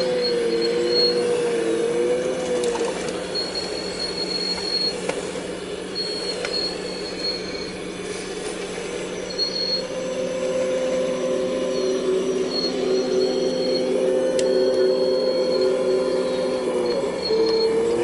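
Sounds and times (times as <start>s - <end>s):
excavator engine and hydraulic hum: 0.0s - 18.0s
high metallic squeal: 0.0s - 18.0s.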